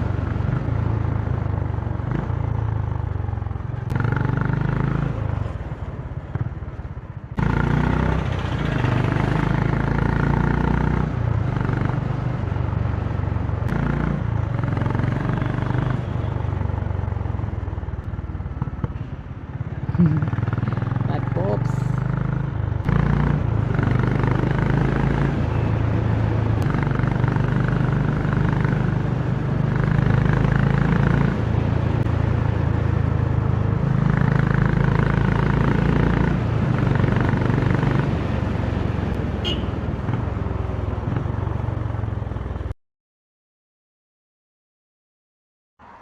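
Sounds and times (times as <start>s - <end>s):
motorcycle engine revving: 0.0s - 5.6s, 6.2s - 42.7s.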